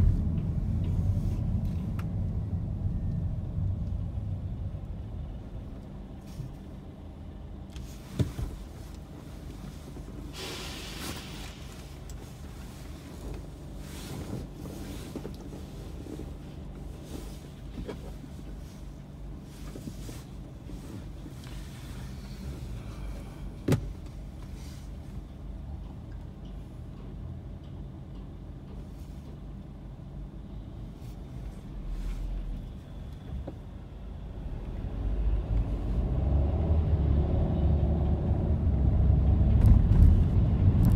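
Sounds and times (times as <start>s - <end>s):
road noise: 0.0s - 40.9s.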